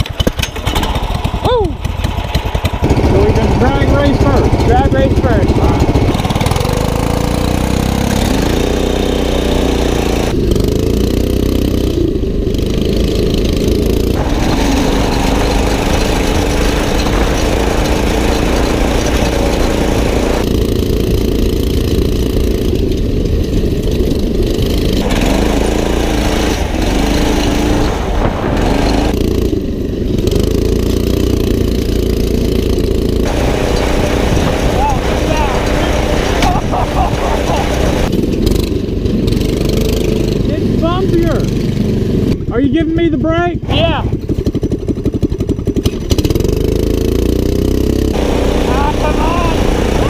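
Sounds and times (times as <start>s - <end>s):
go-kart engines revving: 0.0s - 50.0s.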